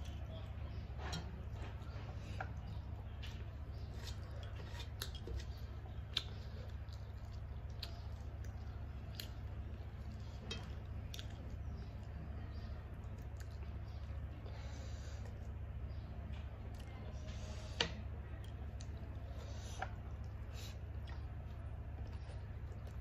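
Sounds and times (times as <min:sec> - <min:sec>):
steady low hum: 0:00.0 - 0:23.0
wet squishing of food: 0:00.0 - 0:23.0.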